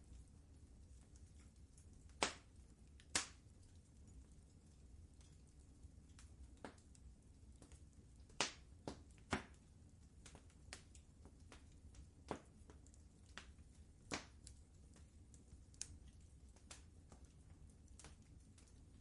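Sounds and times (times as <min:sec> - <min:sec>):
low steady rumble: 0:00.0 - 0:19.0
wood fire crackling and popping: 0:00.0 - 0:19.0.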